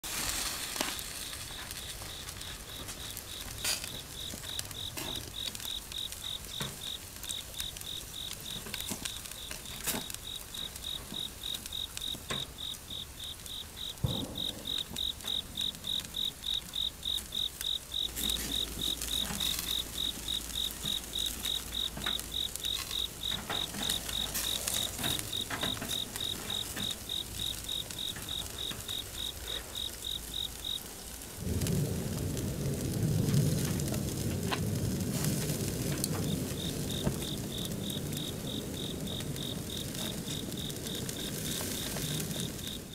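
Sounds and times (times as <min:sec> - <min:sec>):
sharp crackles and pops: 0:00.0 - 0:42.9
crickets chirping: 0:00.4 - 0:42.9.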